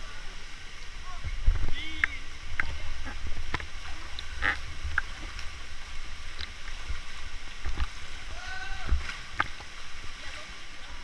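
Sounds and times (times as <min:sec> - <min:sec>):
water churning against microphone: 0:00.0 - 0:11.0
water sloshing and splashing: 0:00.9 - 0:11.0.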